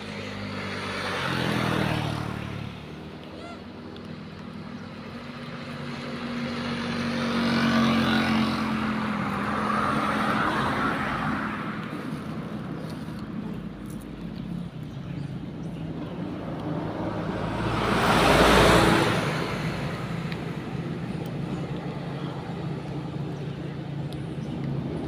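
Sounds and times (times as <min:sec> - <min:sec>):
motor vehicles passing: 0:00.0 - 0:25.0.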